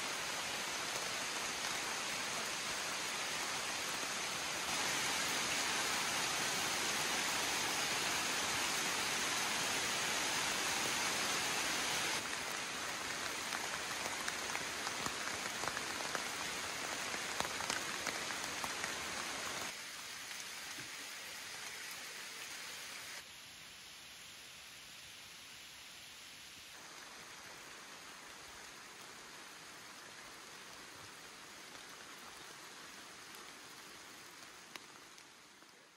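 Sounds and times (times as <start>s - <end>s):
rain on leaves: 0.0s - 35.9s.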